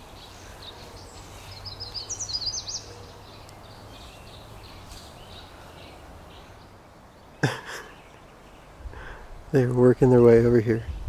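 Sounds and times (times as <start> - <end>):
faint songbird chirps: 0.0 - 10.0.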